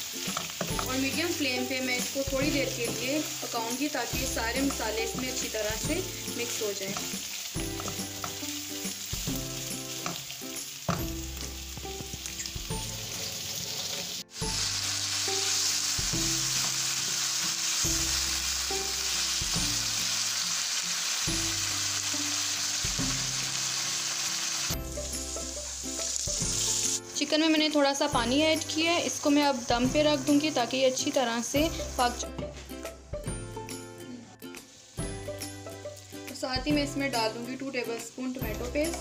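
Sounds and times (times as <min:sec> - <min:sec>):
chicken sizzling in oil: 0:00.0 - 0:32.2, 0:34.2 - 0:39.0.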